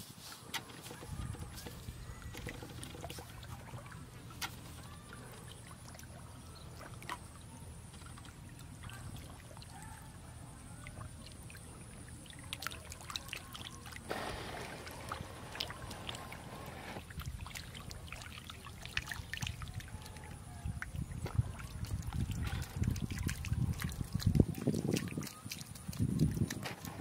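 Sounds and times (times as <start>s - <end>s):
fish splashing in shallow water: 0.1s - 27.0s
running water trickle: 0.6s - 27.0s.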